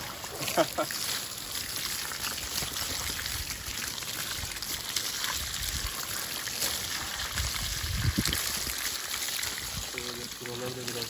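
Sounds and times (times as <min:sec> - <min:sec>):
garden hose spraying water: 0:00.0 - 0:11.0
water splashing on muddy ground: 0:00.0 - 0:11.0.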